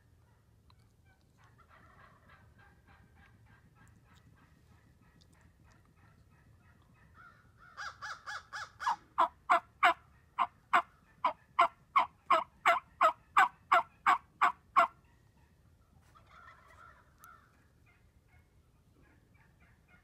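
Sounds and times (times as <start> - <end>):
turkey yelps: 1.0 - 20.0.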